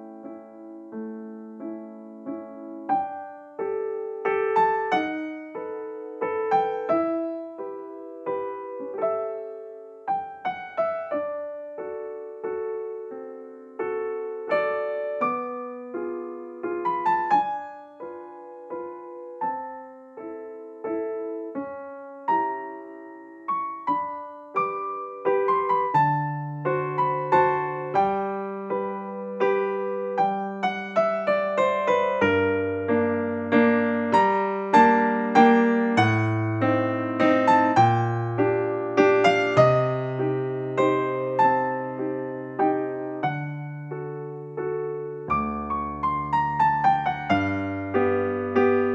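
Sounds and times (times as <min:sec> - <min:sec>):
gentle piano melody: 0:00.0 - 0:48.9
piano bass notes: 0:00.0 - 0:48.9.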